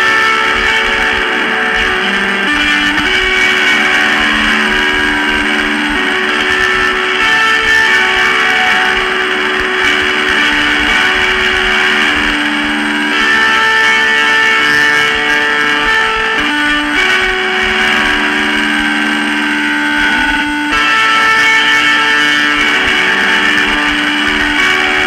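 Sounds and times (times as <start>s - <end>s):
distorted held notes: 0.0s - 25.0s.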